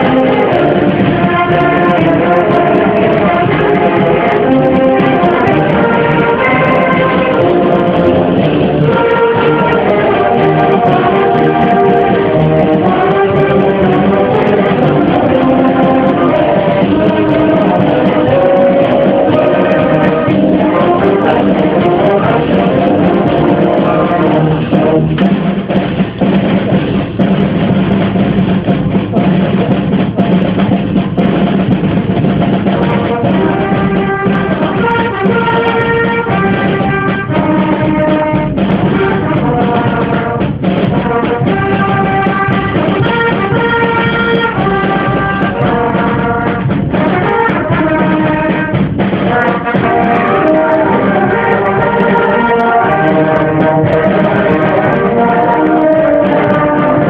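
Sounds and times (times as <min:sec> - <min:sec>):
brass melody: 0:00.0 - 0:57.0
drum kit: 0:00.0 - 0:57.0.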